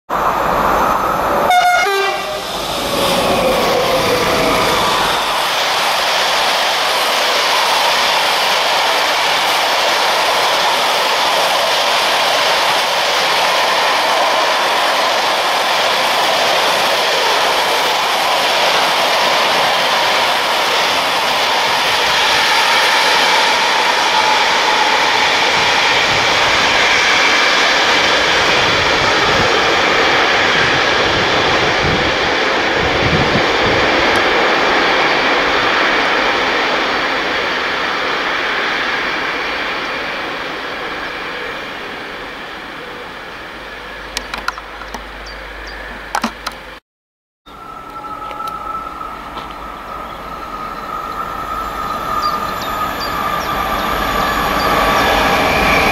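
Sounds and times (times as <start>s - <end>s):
freight train wheels on rails: 0.1s - 46.8s, 47.5s - 55.9s.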